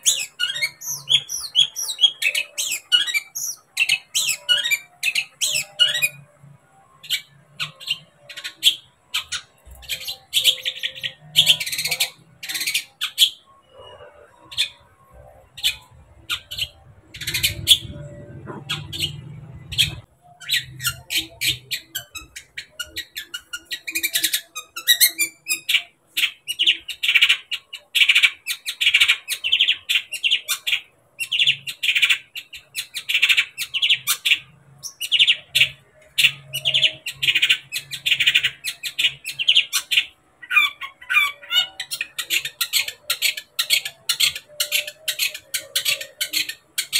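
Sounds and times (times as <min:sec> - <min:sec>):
bird chattering song: 0:00.0 - 0:46.9.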